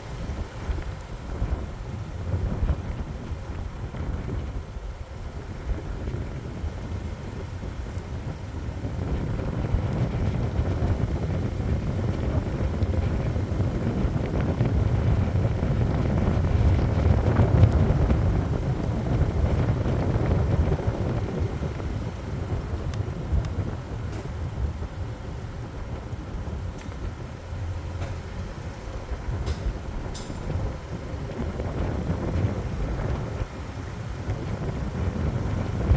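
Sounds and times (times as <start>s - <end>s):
low rumbling vehicle noise: 0.0s - 35.9s.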